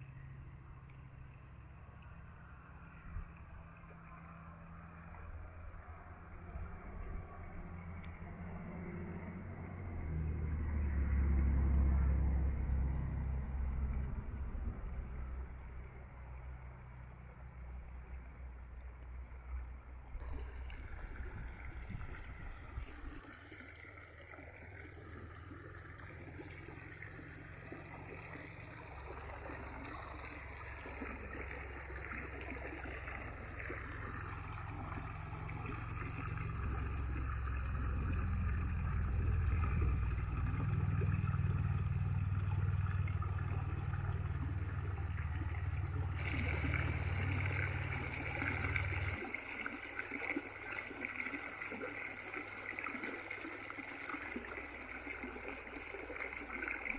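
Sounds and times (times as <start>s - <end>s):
low rumble: 0.0s - 49.3s.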